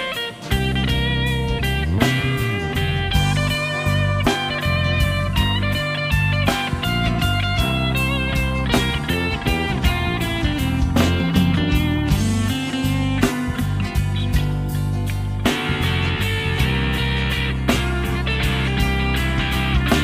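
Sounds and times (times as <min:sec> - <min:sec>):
bass guitar: 0:00.0 - 0:20.0
drums: 0:00.0 - 0:20.0
lead guitar: 0:00.0 - 0:20.0.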